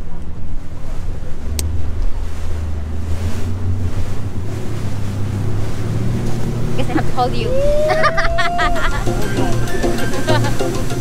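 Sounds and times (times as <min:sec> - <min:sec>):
boat engine humming: 0:00.0 - 0:11.0
water rushing past hull: 0:00.0 - 0:11.0
wind buffeting microphone: 0:00.0 - 0:11.0.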